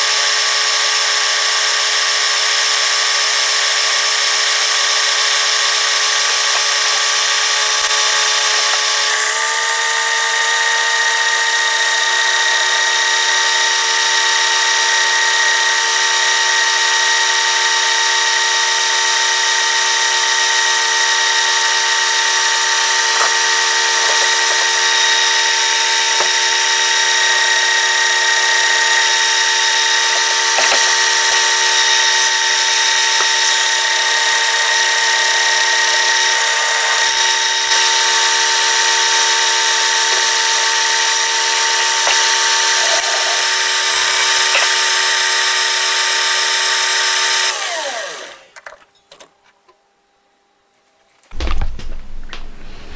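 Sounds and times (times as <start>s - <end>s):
metal lathe whine: 0.0s - 48.6s.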